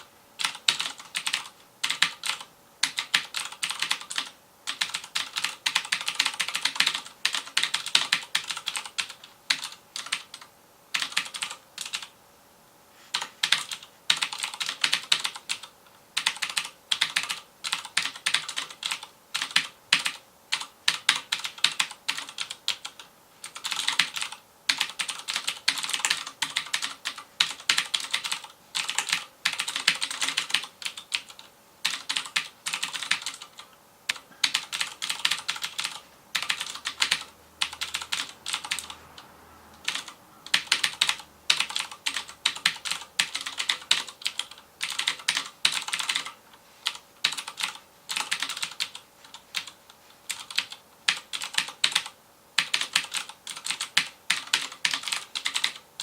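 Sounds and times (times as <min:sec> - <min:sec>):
clicky mechanical keyboard typing: 0:00.4 - 0:12.1, 0:13.1 - 0:55.8.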